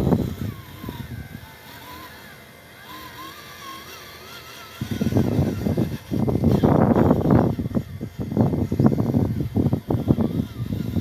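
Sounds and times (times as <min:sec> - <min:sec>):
electric motor and gearbox whining: 0:00.0 - 0:11.0.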